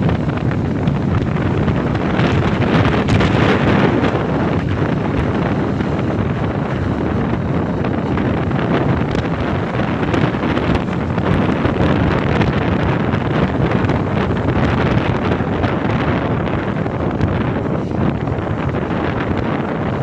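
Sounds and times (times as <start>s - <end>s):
motorcycle engine: 0.0s - 20.0s
wind buffeting microphone: 0.0s - 20.0s.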